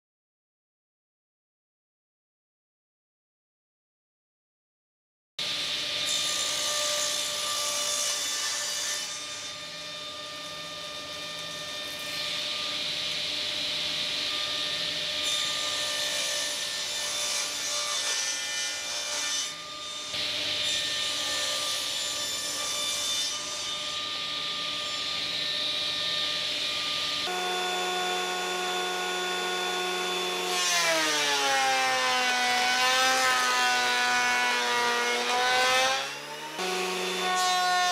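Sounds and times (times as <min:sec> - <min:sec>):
table saw cutting wood: 0:05.4 - 0:37.9.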